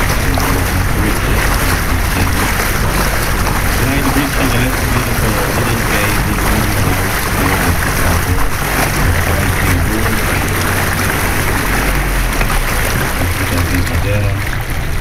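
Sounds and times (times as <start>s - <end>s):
boat engine humming: 0.0s - 15.0s
rush of water and air: 0.0s - 15.0s.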